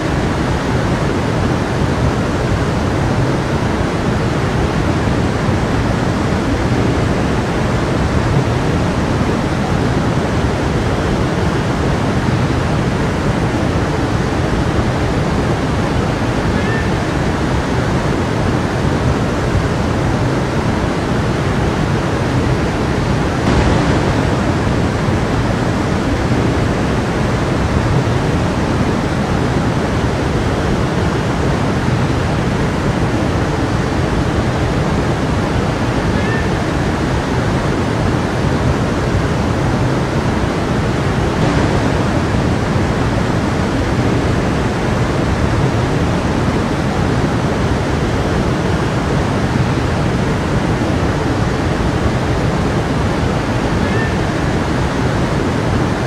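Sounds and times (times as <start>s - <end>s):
stream of water flowing: 0.0s - 56.0s.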